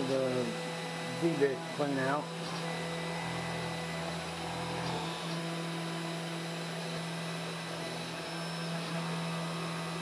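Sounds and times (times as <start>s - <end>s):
engraver spindle humming: 0.0s - 10.0s.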